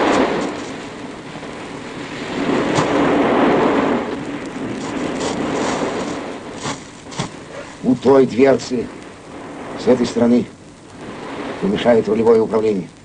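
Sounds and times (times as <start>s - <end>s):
sea surf washing on beach: 0.0s - 13.0s.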